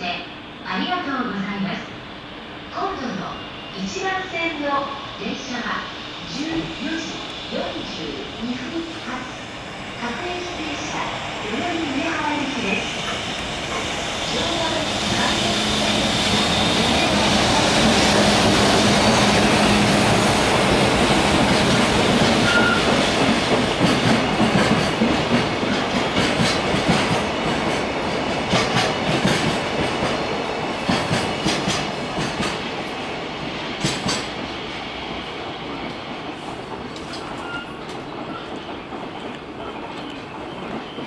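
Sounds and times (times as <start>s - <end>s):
freight train rumble: 0.0s - 41.0s.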